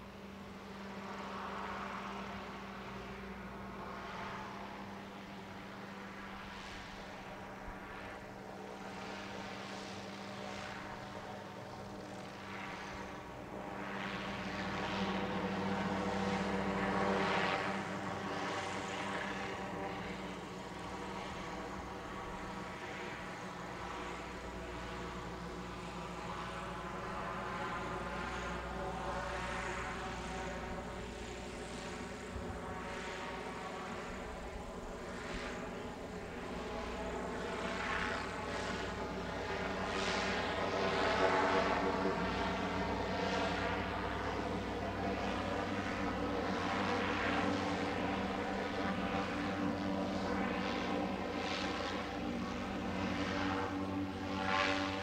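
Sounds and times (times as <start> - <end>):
airship propeller engines droning: 0.0 - 55.0.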